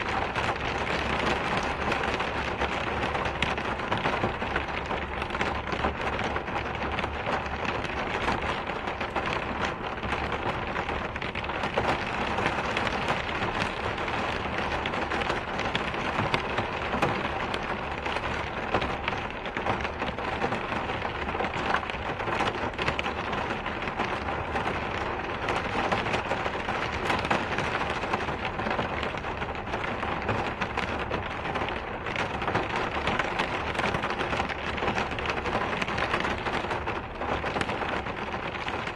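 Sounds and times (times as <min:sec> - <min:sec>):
raindrop ticks: 0:00.0 - 0:38.9.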